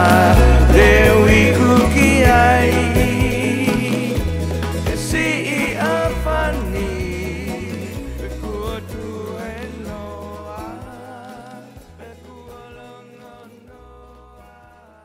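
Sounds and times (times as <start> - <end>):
song with singing voice: 0.0 - 15.0.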